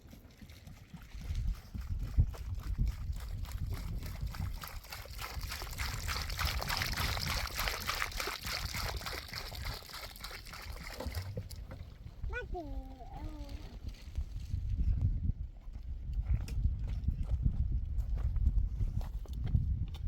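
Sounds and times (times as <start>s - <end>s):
water pouring and sloshing: 0.0s - 20.0s.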